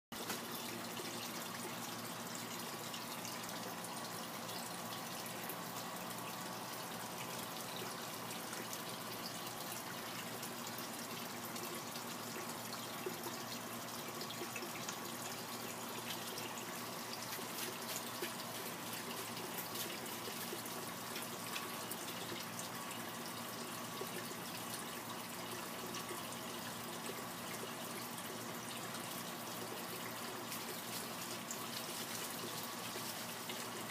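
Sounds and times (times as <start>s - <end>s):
water trickling into pond: 0.1s - 33.9s.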